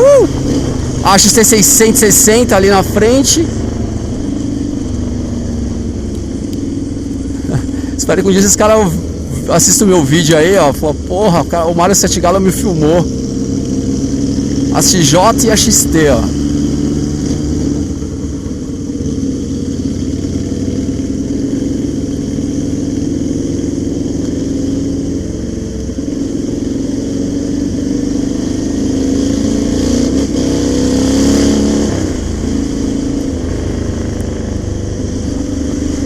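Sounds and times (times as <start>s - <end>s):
motorcycle engines running: 0.0s - 36.0s.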